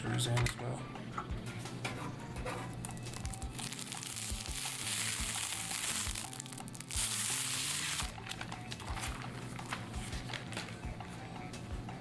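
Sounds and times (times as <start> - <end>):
background music with low beat: 0.0 - 12.0.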